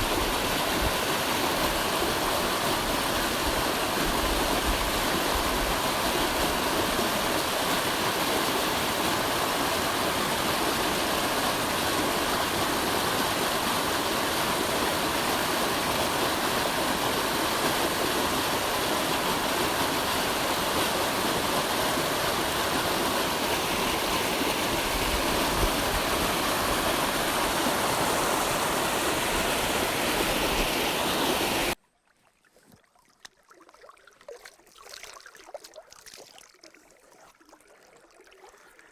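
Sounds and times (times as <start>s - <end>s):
water rushing steadily: 0.0s - 31.8s, 33.0s - 38.9s.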